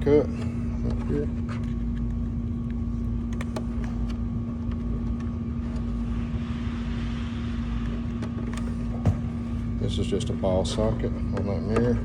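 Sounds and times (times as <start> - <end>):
mechanical hum and rumble: 0.0 - 12.0.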